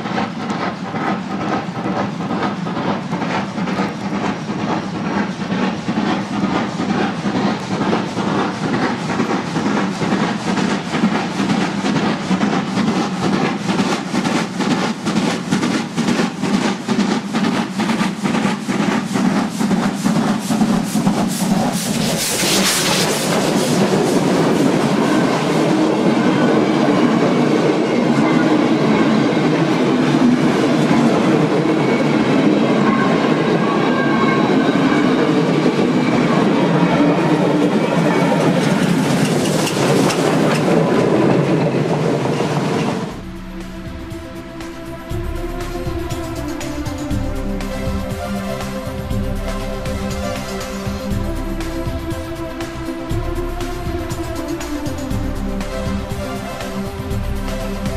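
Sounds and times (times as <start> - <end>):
rush of steam: 0.0 - 57.9
steam locomotive exhaust beats: 0.0 - 57.9.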